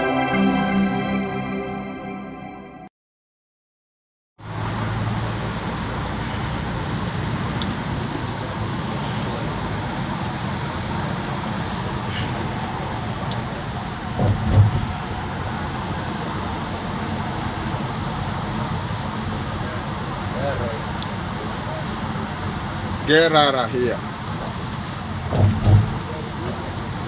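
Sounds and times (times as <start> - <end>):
vehicle road and engine noise: 4.4 - 27.0.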